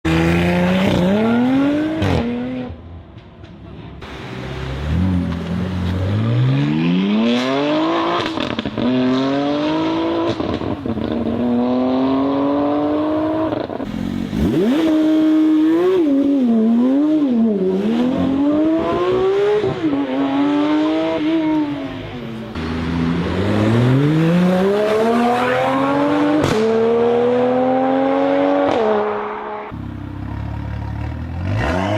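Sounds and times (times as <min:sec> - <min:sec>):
car engine accelerating and revving: 0:00.0 - 0:02.8, 0:04.5 - 0:31.9.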